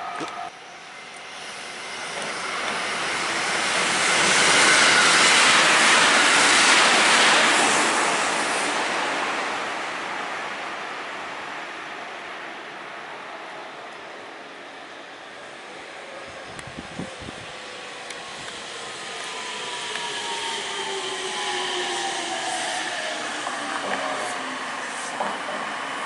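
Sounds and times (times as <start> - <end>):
train passing close by: 0.0 - 26.0.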